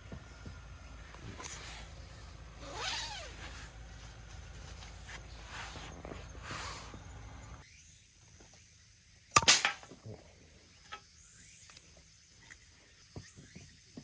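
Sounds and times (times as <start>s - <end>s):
faint insect trill: 0.0s - 14.0s.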